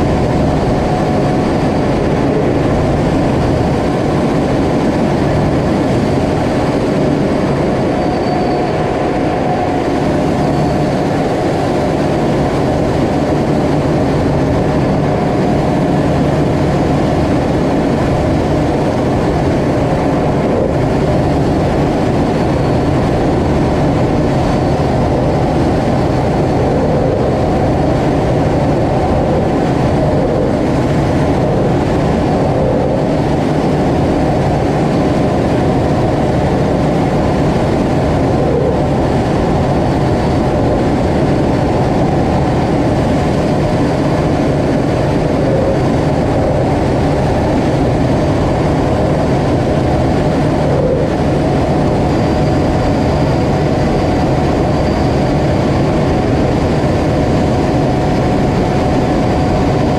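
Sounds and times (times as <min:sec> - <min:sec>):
faint high whine: 0:00.0 - 0:59.9
jet engine and airflow rumble: 0:00.0 - 0:59.9.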